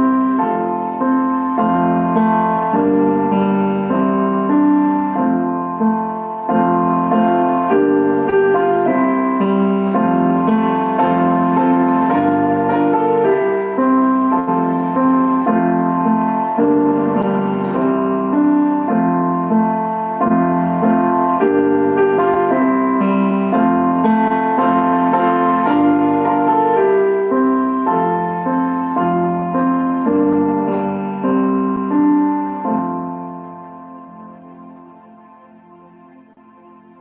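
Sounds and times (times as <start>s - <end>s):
piano playing slow worship song: 0.0s - 37.0s.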